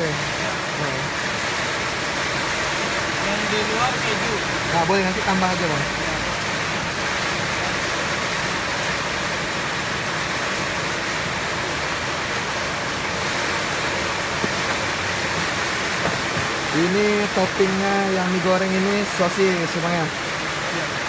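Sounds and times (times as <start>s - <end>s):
heavy rain hiss: 0.0s - 21.0s.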